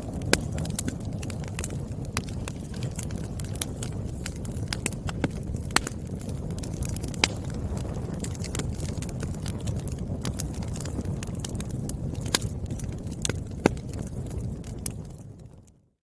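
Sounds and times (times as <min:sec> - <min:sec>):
firewood snapping and popping: 0:00.0 - 0:15.8
wood fire crackling: 0:00.0 - 0:15.8.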